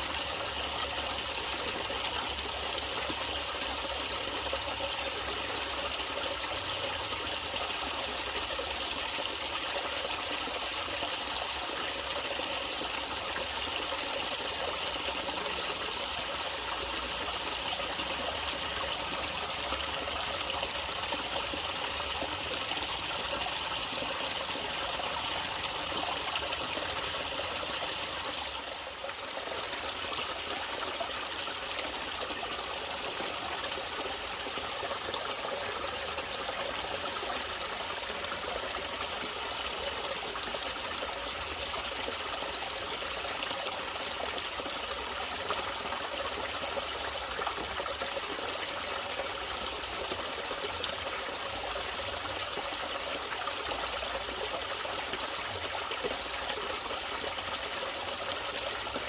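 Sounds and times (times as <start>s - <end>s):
stream trickling and flowing: 0.0s - 59.0s.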